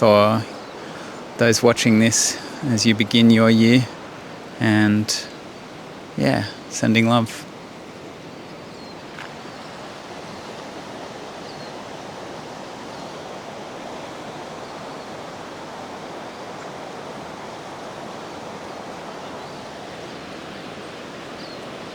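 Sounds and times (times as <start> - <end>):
flowing water rushing: 0.0 - 21.9.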